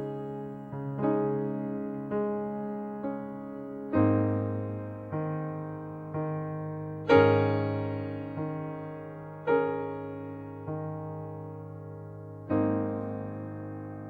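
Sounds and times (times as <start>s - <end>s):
slow solo piano chords: 0.0s - 14.0s.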